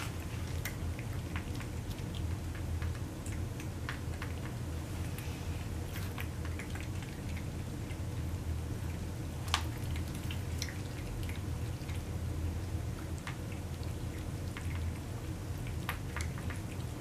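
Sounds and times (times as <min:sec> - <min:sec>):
cats eating wet food: 0:00.0 - 0:17.0
steady low hum: 0:00.0 - 0:17.0.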